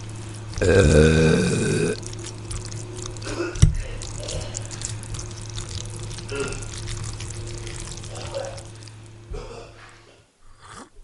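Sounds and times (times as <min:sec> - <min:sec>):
wet crackling liquid: 0:00.0 - 0:09.3
steady low hum: 0:00.0 - 0:10.6.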